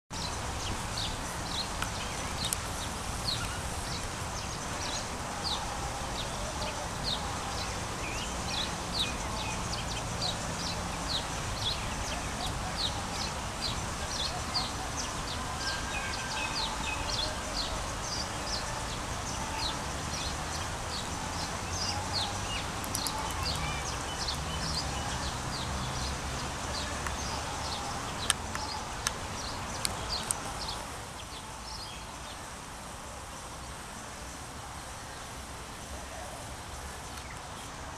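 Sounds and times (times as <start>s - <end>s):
birds chirping: 0.1s - 32.4s.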